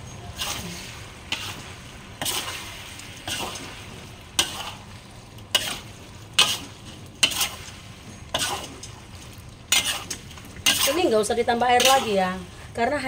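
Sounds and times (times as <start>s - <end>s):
metal spatula scraping wok: 0.0s - 12.8s
low steady sizzle: 0.0s - 13.0s.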